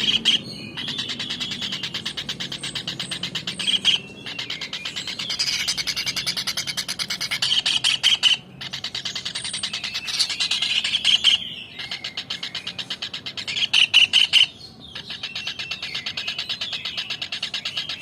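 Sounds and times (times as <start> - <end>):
kingfisher chattering call: 0.0 - 18.0.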